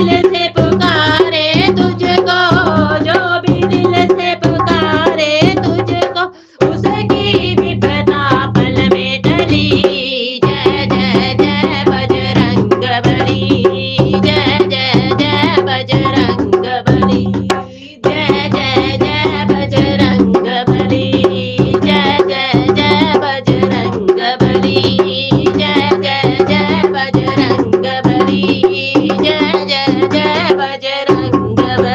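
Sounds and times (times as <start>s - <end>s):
tabla and drums fast rhythm: 0.0s - 31.9s.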